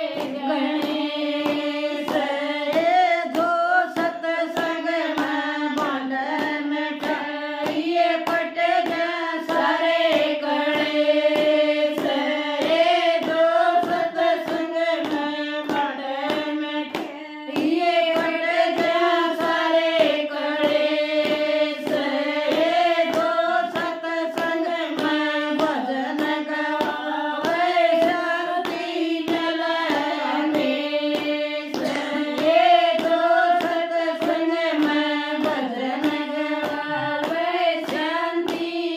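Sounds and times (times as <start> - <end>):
hand claps: 0.0 - 38.9
women singing together: 0.0 - 38.9.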